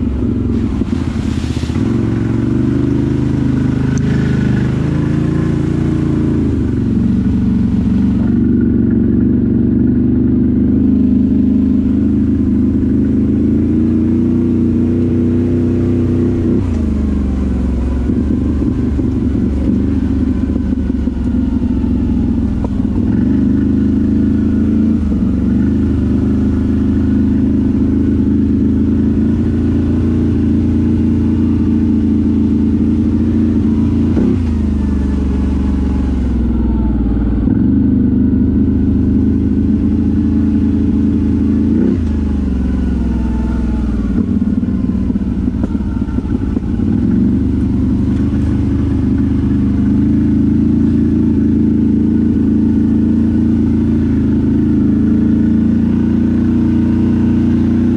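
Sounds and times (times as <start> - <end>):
atv engine revving: 0.0 - 57.9.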